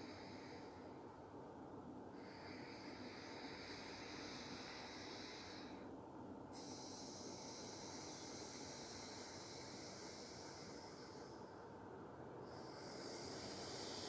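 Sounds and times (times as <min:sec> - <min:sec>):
deep breathing through nostril: 0:00.0 - 0:00.9, 0:02.1 - 0:11.8, 0:12.4 - 0:14.0.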